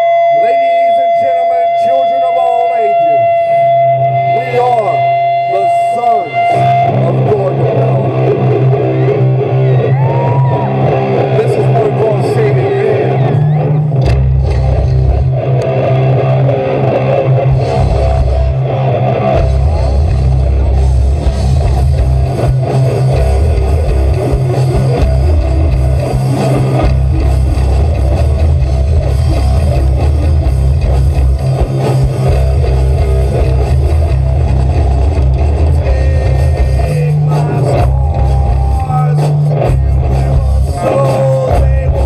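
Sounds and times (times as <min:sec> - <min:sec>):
live heavy rock band: 0:00.0 - 0:42.0.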